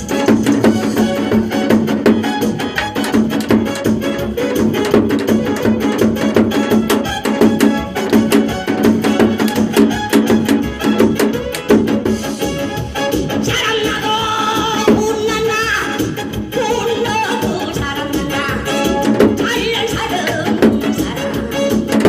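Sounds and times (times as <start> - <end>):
instrumental music: 0.0 - 22.0.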